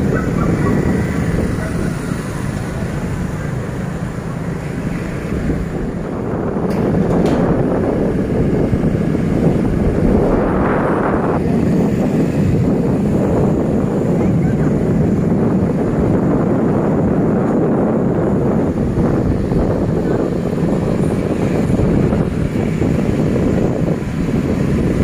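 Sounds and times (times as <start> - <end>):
street traffic rumble: 0.0 - 25.0
wind buffeting microphone: 0.0 - 25.0.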